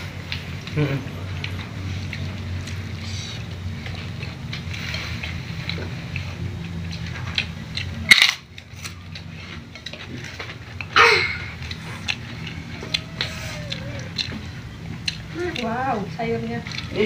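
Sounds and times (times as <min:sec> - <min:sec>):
crunching and biting food: 0:00.0 - 0:15.8
steady low hum: 0:00.0 - 0:17.0.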